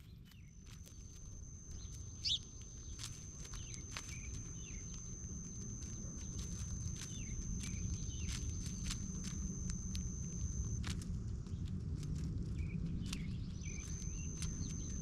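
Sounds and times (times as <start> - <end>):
songbirds chirping: 0.0 - 11.8, 12.4 - 15.0
low background rumble: 0.0 - 15.0
high-pitched whine: 0.3 - 15.0
faint ticks: 0.7 - 15.0.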